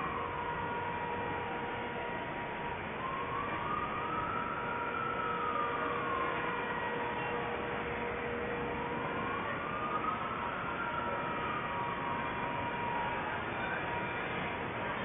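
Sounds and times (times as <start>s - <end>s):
city noise hiss: 0.0s - 15.0s
siren wailing: 0.0s - 15.0s.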